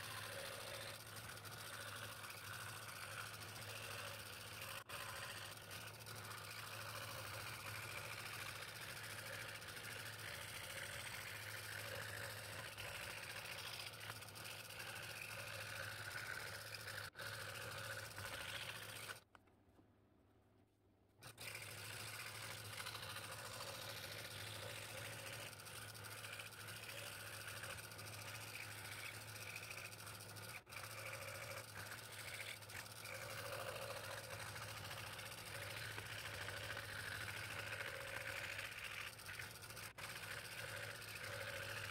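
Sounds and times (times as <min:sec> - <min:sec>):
scroll saw cutting wood: 0:00.0 - 0:19.4, 0:21.2 - 0:41.9.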